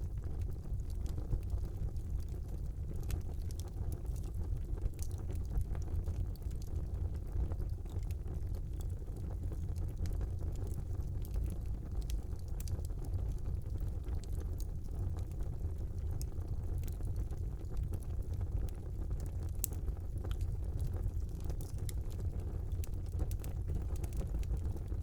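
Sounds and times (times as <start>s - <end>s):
fire crackling and popping: 0.0s - 25.0s
wood fire rumbling: 0.0s - 25.0s.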